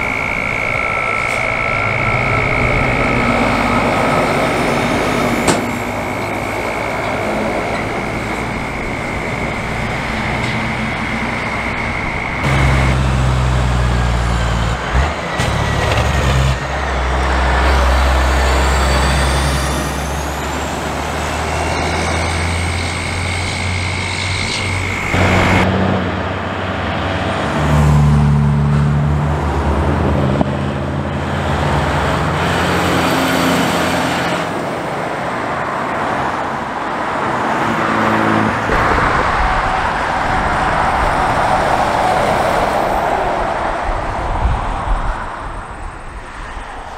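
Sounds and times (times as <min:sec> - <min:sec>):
diesel truck engines under load: 0:00.0 - 0:46.9
passing traffic: 0:00.0 - 0:46.9.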